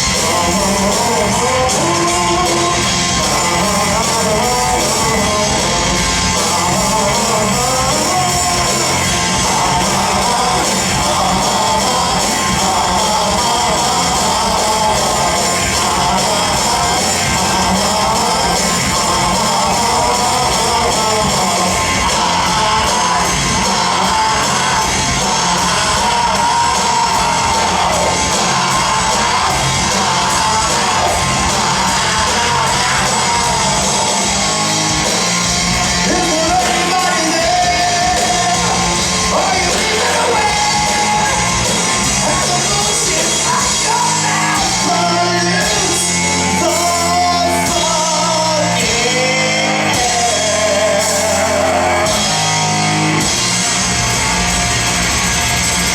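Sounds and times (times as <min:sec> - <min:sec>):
person singing: 0:00.0 - 0:53.5
live rock band playing: 0:00.0 - 0:55.9.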